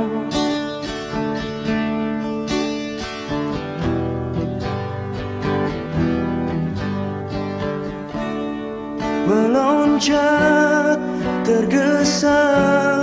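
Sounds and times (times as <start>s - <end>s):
acoustic guitar strummed and plucked: 0.0s - 13.0s.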